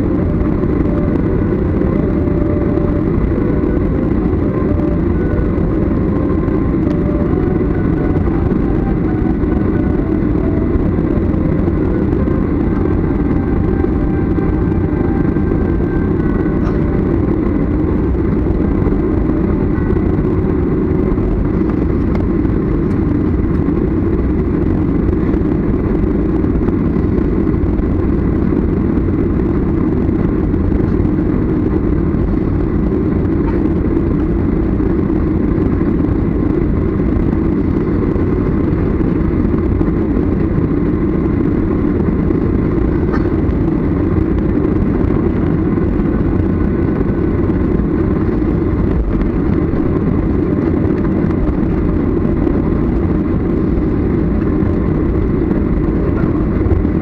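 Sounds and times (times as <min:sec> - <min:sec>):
airliner cabin rumble: 0:00.0 - 0:57.0
faint steady whine: 0:00.0 - 0:57.0.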